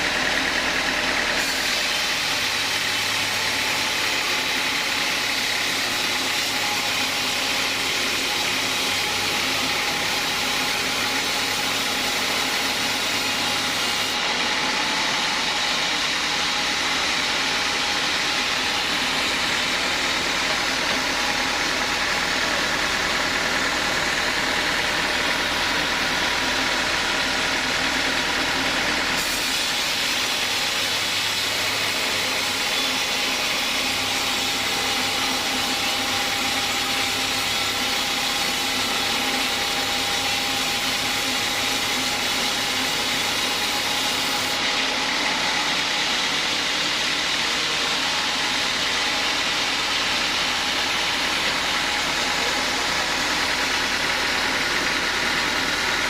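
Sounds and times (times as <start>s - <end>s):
chainsaw engine running: 0.0s - 56.0s.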